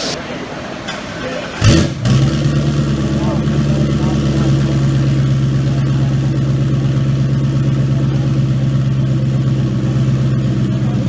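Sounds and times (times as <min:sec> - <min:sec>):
car engine idling: 0:01.6 - 0:11.0.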